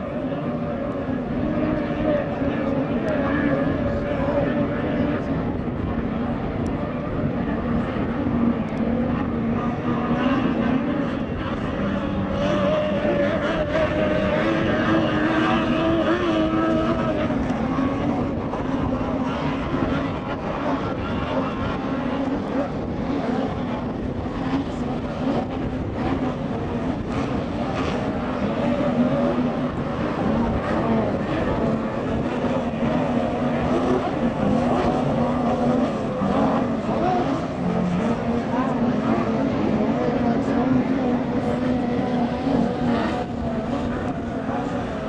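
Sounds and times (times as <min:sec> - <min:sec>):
boat engines droning: 0:00.0 - 0:45.0
racing outboard motors buzzing: 0:00.0 - 0:45.0.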